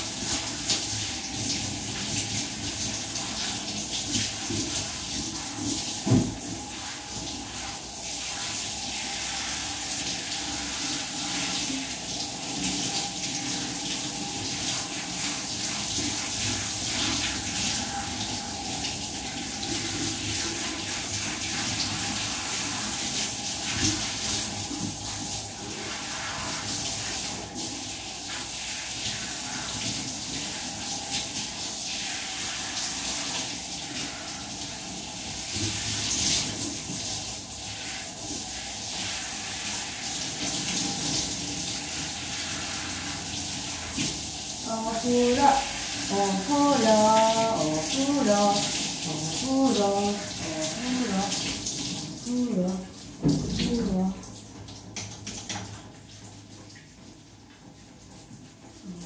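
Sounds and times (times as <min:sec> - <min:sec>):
shower spray on wet dog coat: 0:00.0 - 0:59.0.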